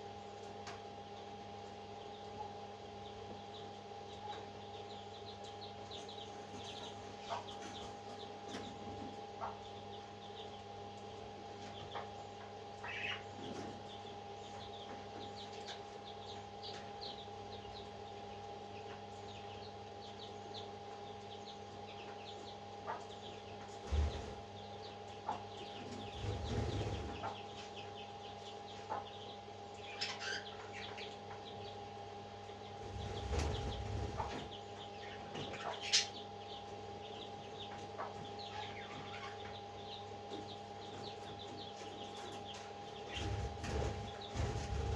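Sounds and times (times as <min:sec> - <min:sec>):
mechanical hum: 0:00.0 - 0:44.9
parrot chicks cheeping: 0:00.1 - 0:44.9.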